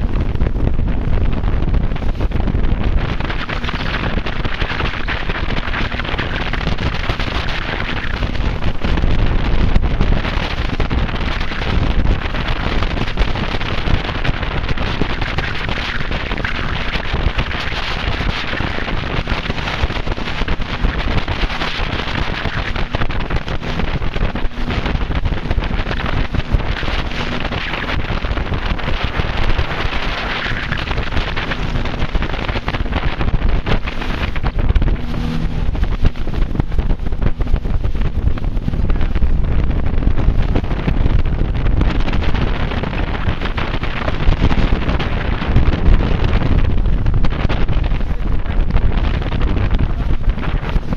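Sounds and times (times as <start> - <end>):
boat engine humming: 0.0 - 50.9
wind buffeting microphone: 0.0 - 50.9.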